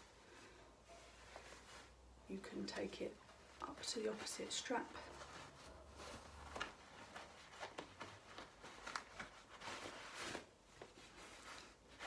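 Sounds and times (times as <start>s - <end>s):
fabric straps rustling: 0.0s - 12.0s.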